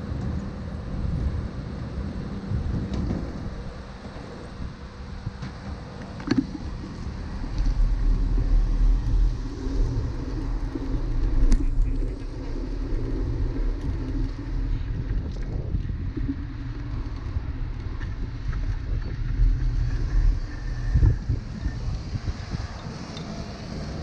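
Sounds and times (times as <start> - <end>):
passing cars and bus rumble: 0.0 - 24.0.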